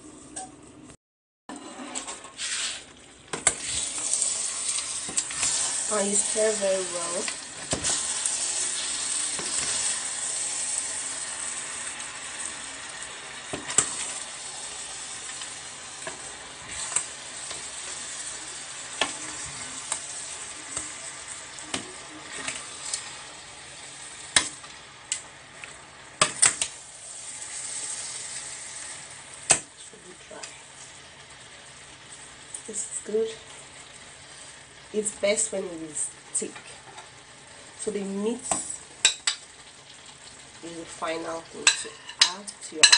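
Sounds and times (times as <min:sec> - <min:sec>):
soup sizzling in a pot: 0:01.6 - 0:42.9.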